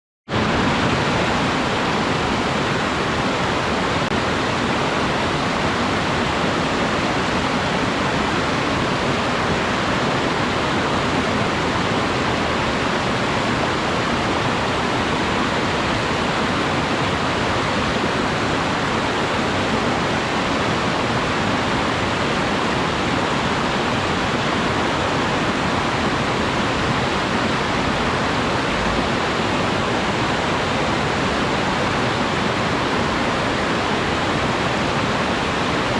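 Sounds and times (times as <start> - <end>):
waterfall rushing: 0.3 - 35.9.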